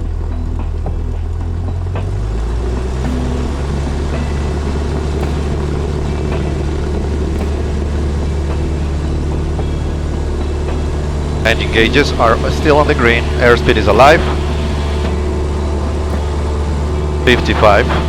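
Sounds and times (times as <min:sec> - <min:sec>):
propeller plane engine at full power: 0:00.0 - 0:18.0.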